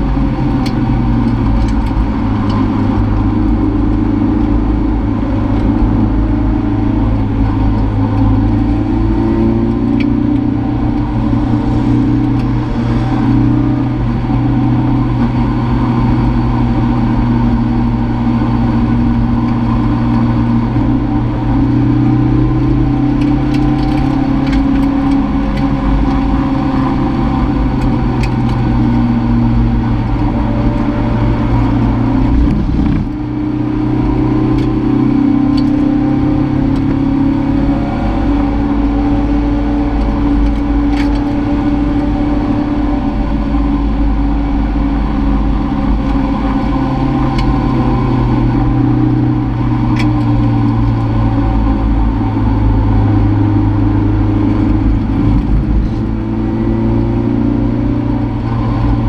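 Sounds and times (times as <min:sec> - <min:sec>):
car engine running at low revs: 0:00.0 - 0:59.0.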